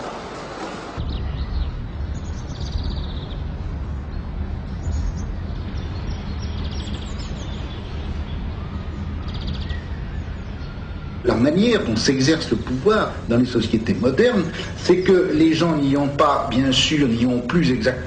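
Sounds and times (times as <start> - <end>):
low rumble: 1.0 - 17.2
small birds trilling: 1.0 - 18.0.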